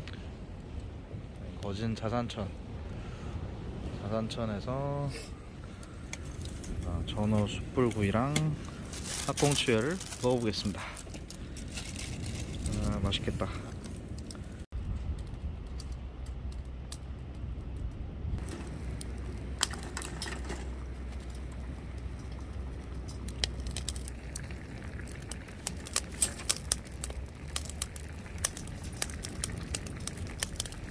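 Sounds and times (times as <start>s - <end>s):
low steady rumble: 0.0s - 30.9s
charcoal grill crackling and popping: 5.6s - 30.9s.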